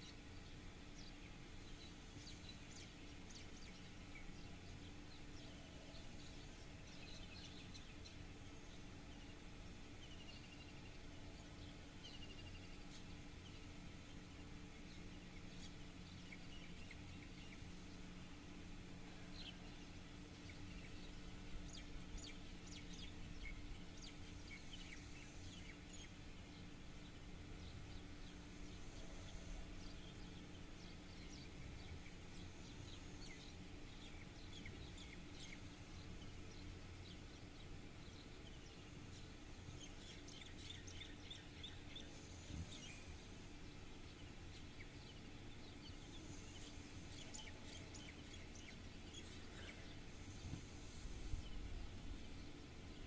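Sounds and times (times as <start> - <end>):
faint bird chirps: 0.0 - 53.0
low hum and rumble: 0.0 - 53.0.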